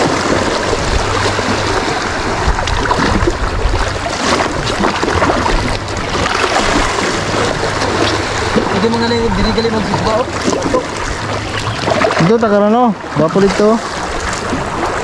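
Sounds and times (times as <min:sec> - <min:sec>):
sea waves splashing on rocks: 0:00.0 - 0:15.0.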